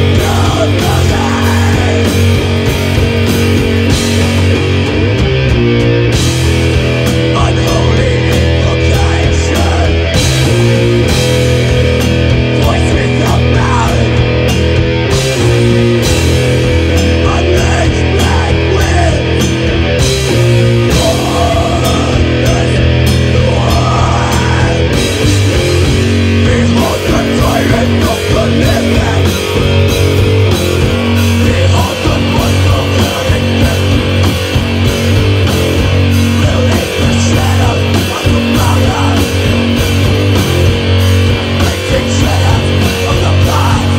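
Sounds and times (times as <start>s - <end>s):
bass guitar: 0.0s - 43.9s
distorted electric guitars: 0.0s - 43.9s
pounding drum kit: 0.0s - 43.9s.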